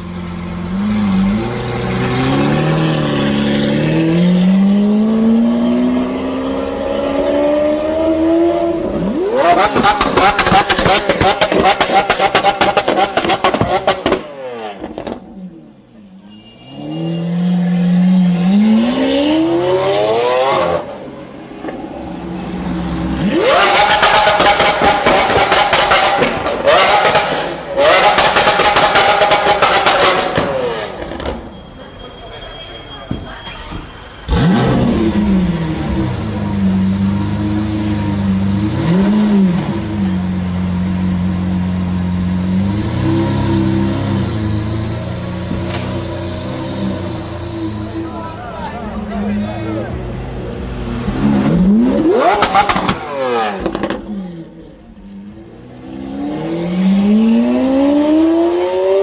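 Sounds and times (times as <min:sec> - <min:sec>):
car engine revving with loud exhaust: 0:00.0 - 0:16.0, 0:16.7 - 0:32.0, 0:33.6 - 0:59.0.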